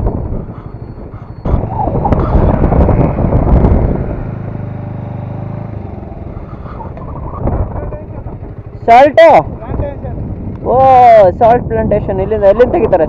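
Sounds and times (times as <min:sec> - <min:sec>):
motorcycle engine running: 0:00.0 - 0:12.7
wind on microphone: 0:00.0 - 0:13.0.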